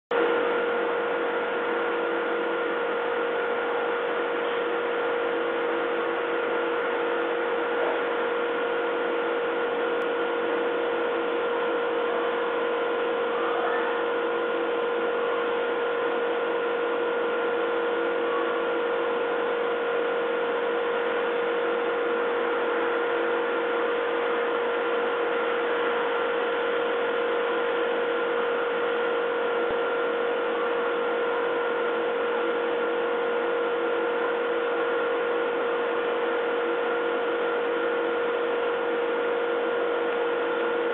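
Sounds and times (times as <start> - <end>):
steady hum with tones: 0.1 - 40.9.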